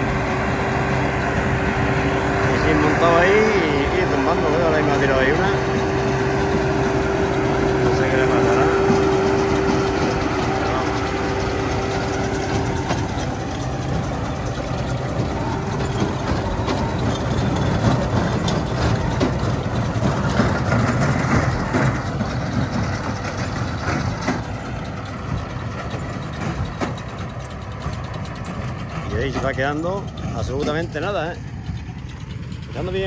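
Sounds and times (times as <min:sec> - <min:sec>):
baler mechanical clatter: 0:00.0 - 0:33.0
tractor engine running: 0:00.0 - 0:33.0.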